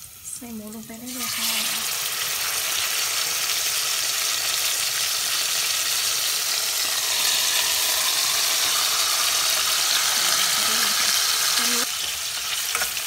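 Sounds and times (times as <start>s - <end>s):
pork sizzling in hot oil: 0.0s - 13.0s.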